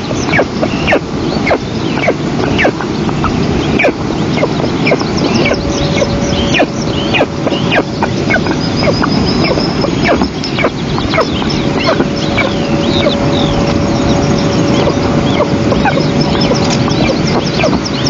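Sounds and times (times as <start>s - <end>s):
eagle chicks begging chirps: 0.0s - 18.0s
low rush of noise: 0.0s - 18.0s.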